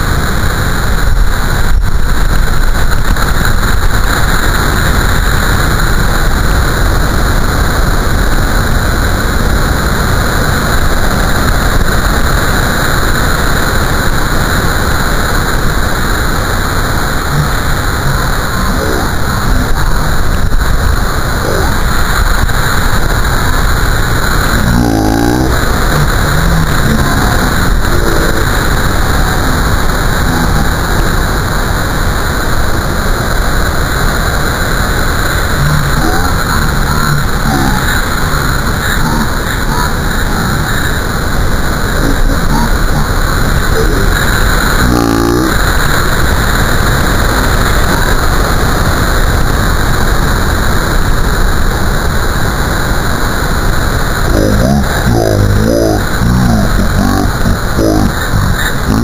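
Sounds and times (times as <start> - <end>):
heavy surf breaking over rocks: 0.0 - 59.0.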